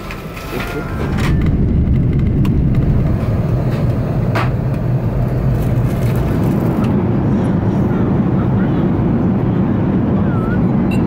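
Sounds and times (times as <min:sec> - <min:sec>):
airliner engines rumbling: 0:00.0 - 0:11.0.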